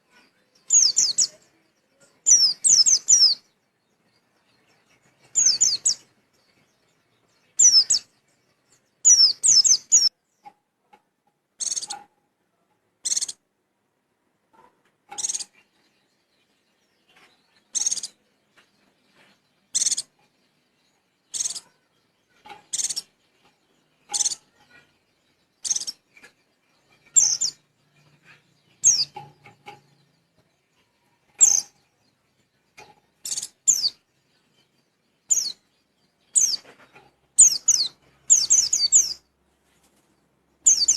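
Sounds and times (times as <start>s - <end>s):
bird chirping calls: 0.0s - 13.5s, 14.5s - 40.9s.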